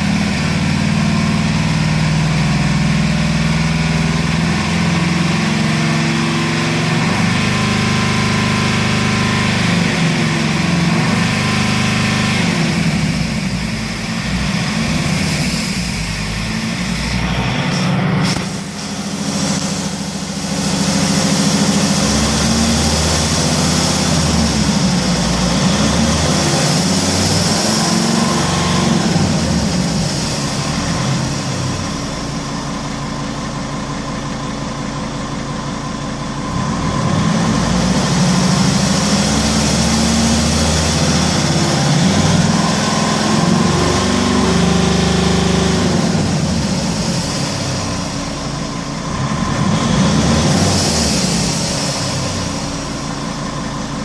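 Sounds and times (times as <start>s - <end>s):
diesel engine revving and idling: 0.0s - 54.0s.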